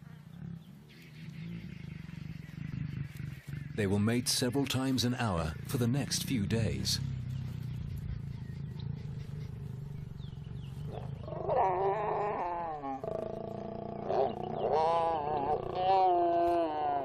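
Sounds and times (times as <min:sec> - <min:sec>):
lions growling: 0:00.0 - 0:17.0.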